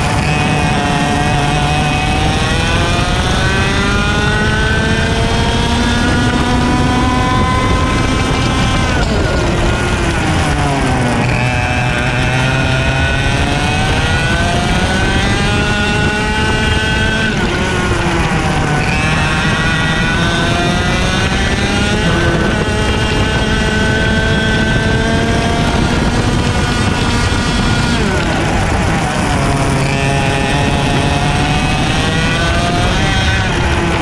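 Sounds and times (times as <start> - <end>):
kart engine at racing speed: 0.0 - 34.0.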